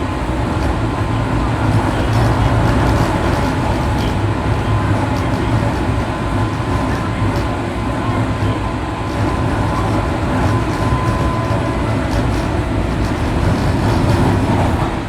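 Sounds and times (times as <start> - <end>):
faint steady whine: 0.0 - 15.0
train wheels rumbling on rail: 0.0 - 15.0.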